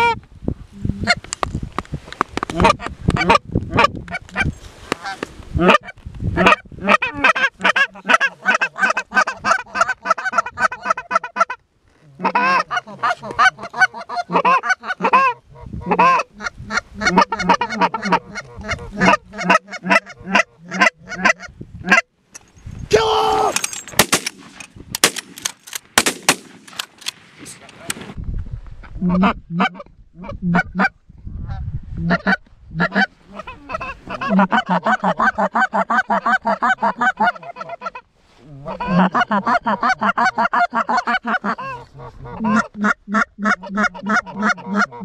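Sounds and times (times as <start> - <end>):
geese honking and clucking: 0.8 - 1.2, 2.5 - 22.1, 28.9 - 45.0.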